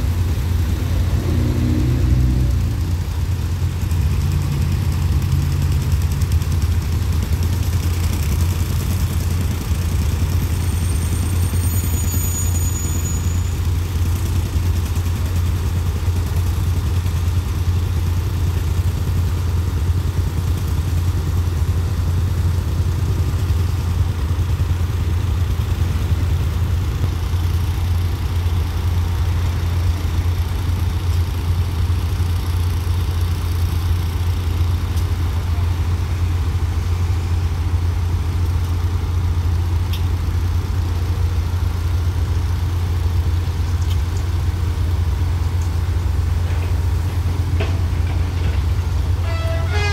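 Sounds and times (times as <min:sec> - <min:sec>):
diesel engines idling: 0:00.0 - 0:49.9.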